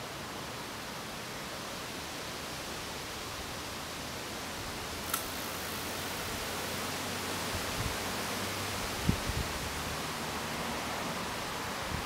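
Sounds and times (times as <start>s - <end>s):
steady breeze: 0.0s - 12.0s.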